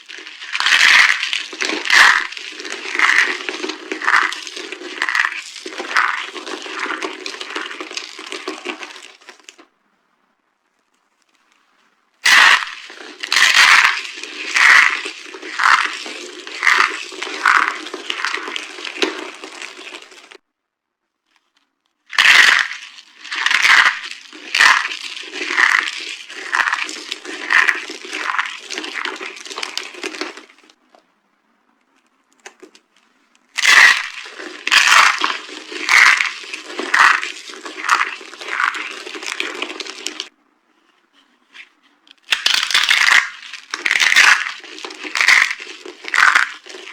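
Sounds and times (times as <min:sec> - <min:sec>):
dry soap crunching: 0:00.0 - 0:09.7, 0:12.2 - 0:20.4, 0:21.3 - 0:31.0, 0:32.3 - 0:46.9
steady crackle: 0:00.0 - 0:09.7, 0:10.6 - 0:20.4, 0:21.2 - 0:31.1, 0:31.8 - 0:46.9.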